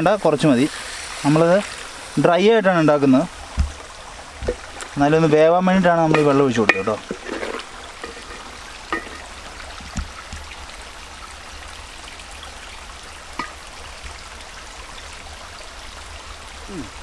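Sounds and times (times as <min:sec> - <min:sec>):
stream running: 0:00.0 - 0:17.0.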